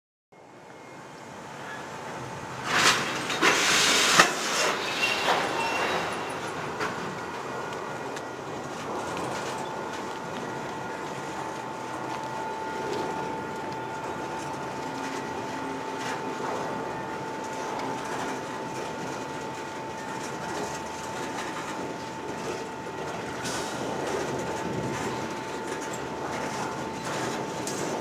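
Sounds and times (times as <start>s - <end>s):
high-pitched whine: 0.4s - 28.0s
train rolling slowly: 0.4s - 28.0s
wheels clicking over rail joints: 2.6s - 28.0s.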